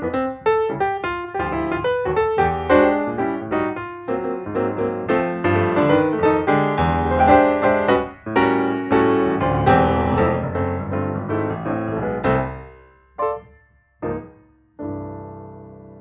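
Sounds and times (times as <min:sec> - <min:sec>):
background piano music: 0:00.0 - 0:16.0.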